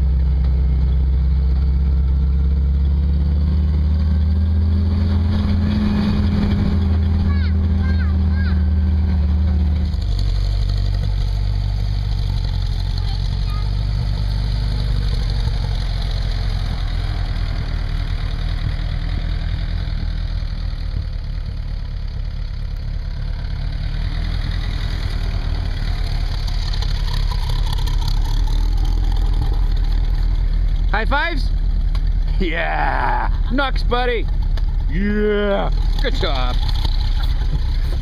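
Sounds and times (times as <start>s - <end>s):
jeep engine rumbling: 0.0s - 38.0s.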